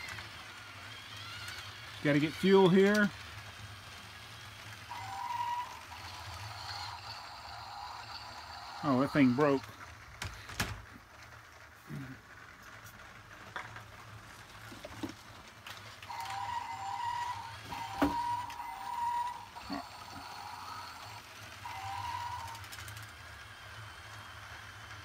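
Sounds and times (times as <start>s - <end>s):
toy train motor hum: 0.0s - 25.0s.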